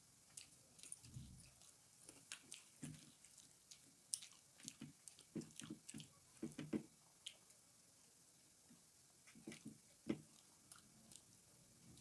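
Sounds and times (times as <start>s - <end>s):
chewing with mouth clicks and smacks: 0.3s - 7.6s, 9.3s - 12.0s.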